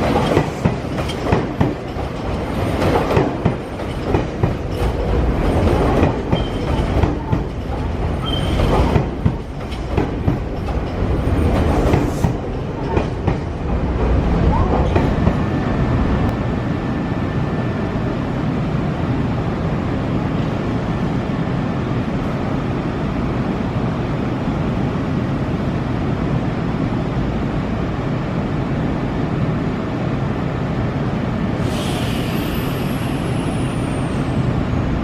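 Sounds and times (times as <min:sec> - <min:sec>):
electric train rumbling: 0:00.0 - 0:35.0.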